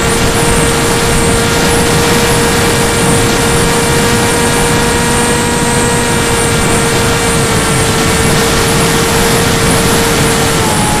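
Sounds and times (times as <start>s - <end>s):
drone motors whining: 0.0s - 11.0s
loud rushing noise: 0.0s - 11.0s.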